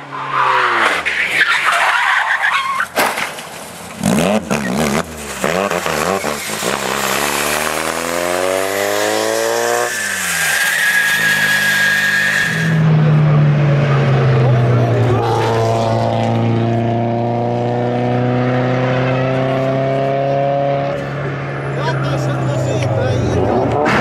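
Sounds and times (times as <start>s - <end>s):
racing car engine accelerating: 4.0s - 24.0s.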